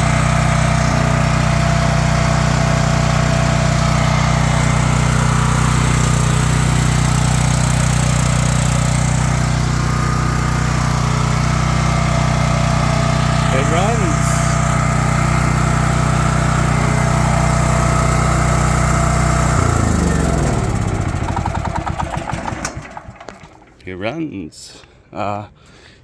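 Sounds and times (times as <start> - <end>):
generator engine running: 0.0 - 24.0.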